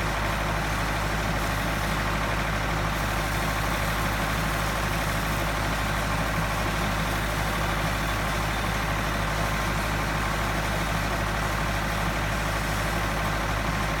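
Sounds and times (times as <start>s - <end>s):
pump engine drone: 0.0s - 14.0s.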